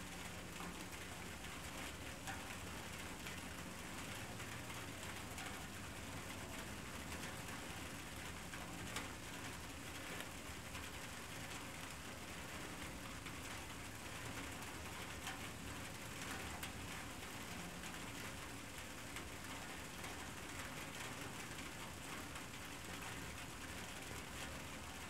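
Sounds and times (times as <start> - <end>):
faint recording hiss: 0.0 - 25.0.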